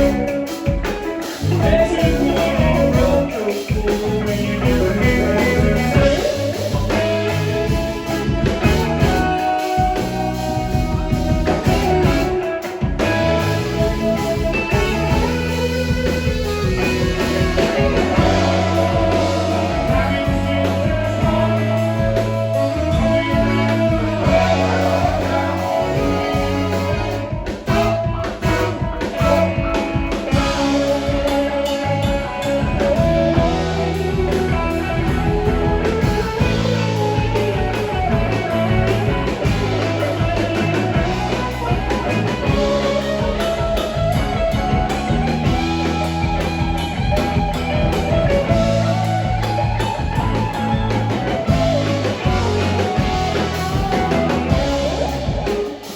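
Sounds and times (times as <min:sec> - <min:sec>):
rock band playing: 0:00.0 - 0:55.9.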